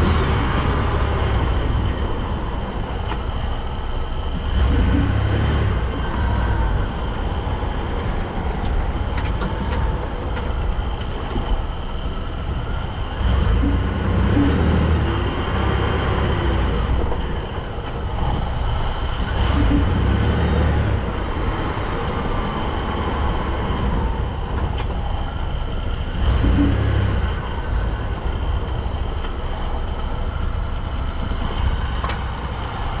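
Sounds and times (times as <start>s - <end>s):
truck driveline running: 0.0s - 33.0s.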